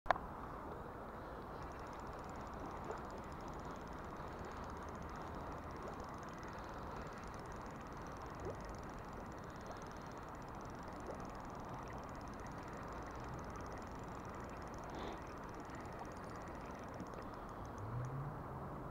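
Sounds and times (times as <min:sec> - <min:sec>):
river water flowing: 0:00.2 - 0:18.9.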